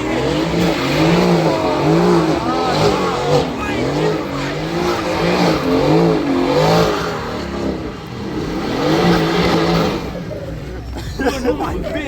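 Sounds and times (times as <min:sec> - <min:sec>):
car engine revving in blips: 0:00.0 - 0:12.0.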